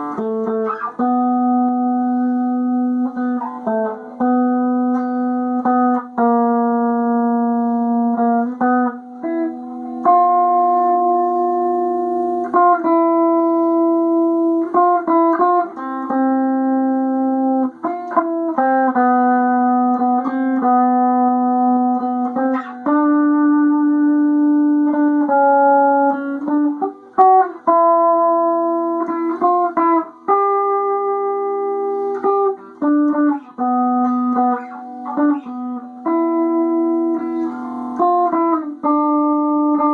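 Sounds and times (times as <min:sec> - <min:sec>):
electric guitar playing slow notes: 0:00.0 - 0:39.9.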